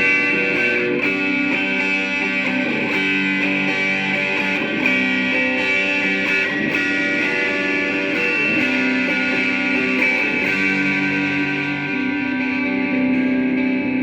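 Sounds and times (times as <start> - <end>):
overdriven electric guitar chords: 0.0 - 14.0.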